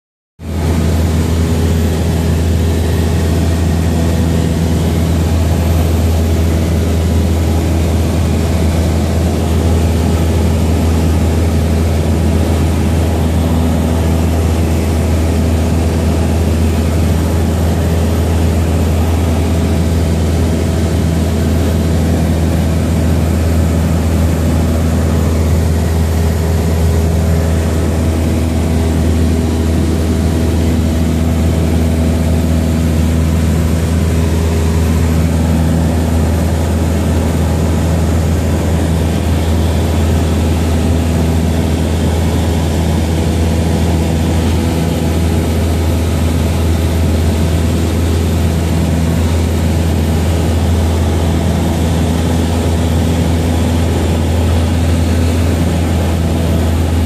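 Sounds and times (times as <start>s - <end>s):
propeller aircraft engine droning: 0.4s - 57.0s.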